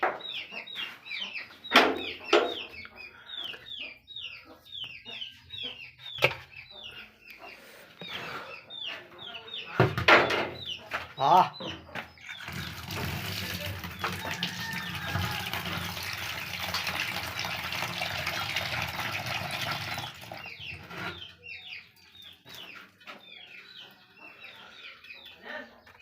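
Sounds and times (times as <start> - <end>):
chicks cheeping: 0.0 - 26.0.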